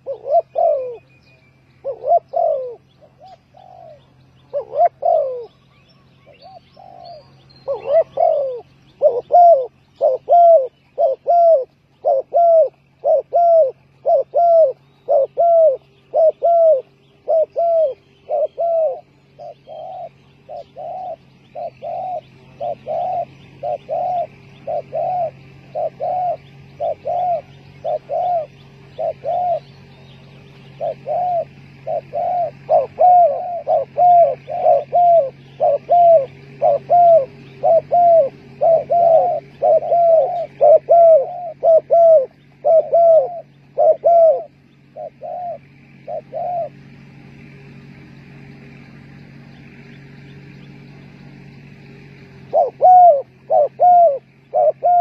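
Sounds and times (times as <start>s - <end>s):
dove cooing: 0.0s - 55.0s
faint low hum: 0.0s - 55.0s.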